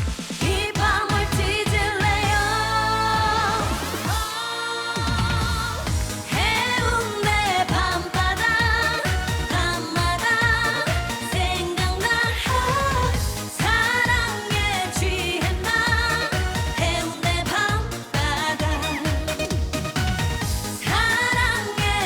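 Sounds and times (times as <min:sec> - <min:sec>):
backing track with drum beat: 0:00.0 - 0:22.0
woman singing with vibrato: 0:00.4 - 0:19.4, 0:20.7 - 0:22.0.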